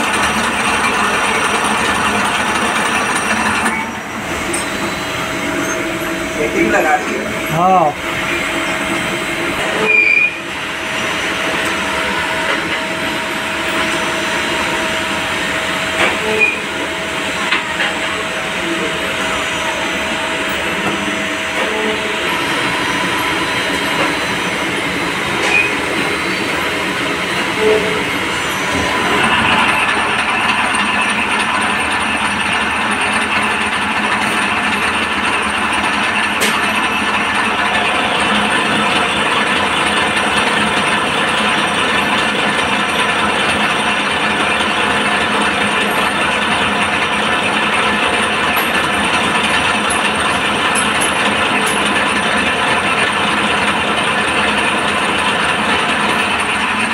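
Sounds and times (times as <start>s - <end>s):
lathe running: 0.0s - 56.9s.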